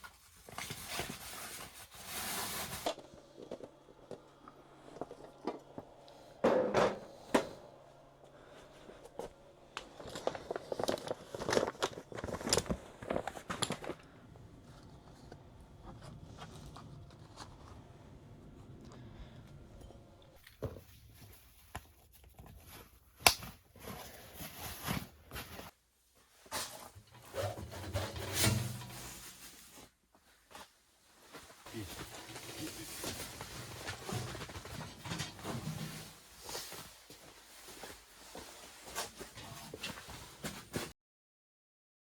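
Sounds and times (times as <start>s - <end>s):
objects rustling and scraping: 0.0s - 40.9s.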